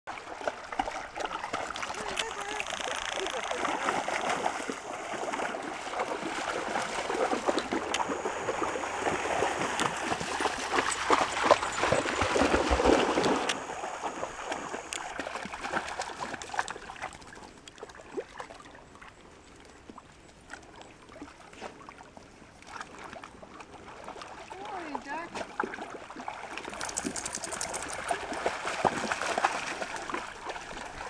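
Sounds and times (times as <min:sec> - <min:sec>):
water splashing: 0:00.1 - 0:19.1, 0:19.9 - 0:31.0.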